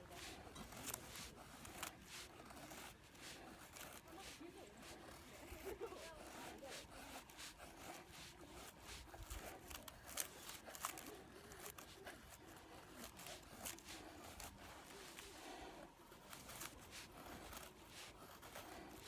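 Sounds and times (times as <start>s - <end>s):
faint rustling: 0.0s - 19.0s.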